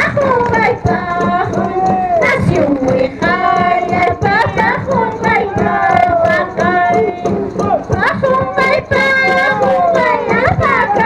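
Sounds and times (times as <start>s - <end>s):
drum beats: 0.0s - 11.0s
women singing together: 0.0s - 11.0s.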